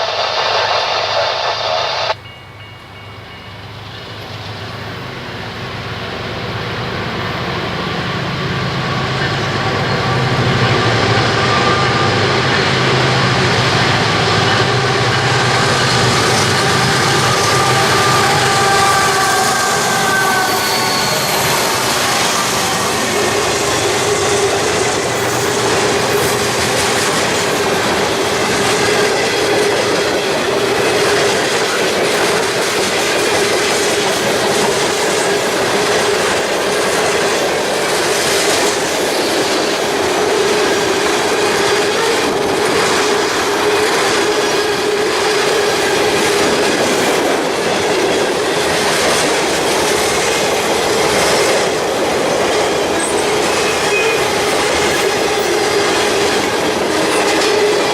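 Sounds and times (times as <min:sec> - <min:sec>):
train wheels clicking over rail joints: 0:10.4 - 0:57.9.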